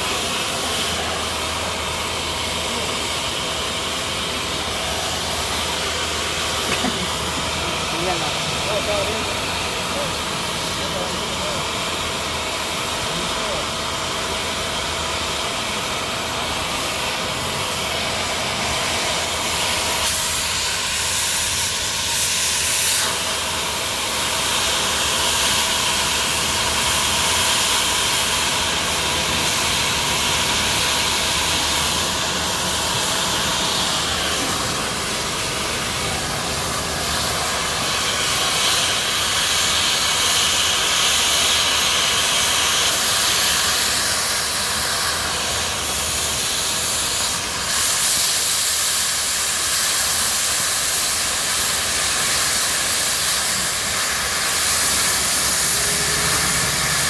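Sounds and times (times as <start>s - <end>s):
cutting torch hissing: 0.0s - 57.0s.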